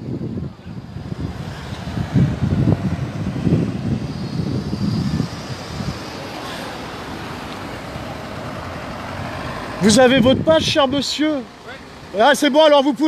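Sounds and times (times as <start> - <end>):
cars passing in traffic: 0.0 - 13.0.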